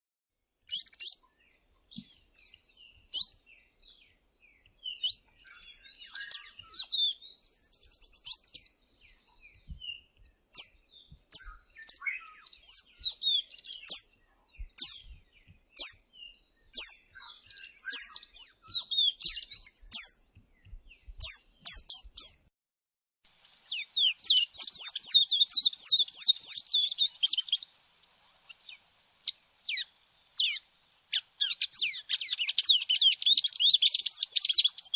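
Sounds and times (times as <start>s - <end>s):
songbirds chirping: 0.6s - 22.5s, 23.3s - 34.9s.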